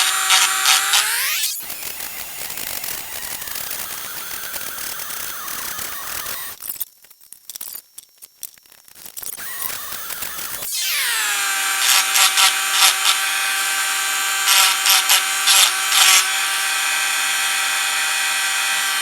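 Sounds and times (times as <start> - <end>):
rotary tool spinning down: 0.0 - 6.6, 9.4 - 19.0.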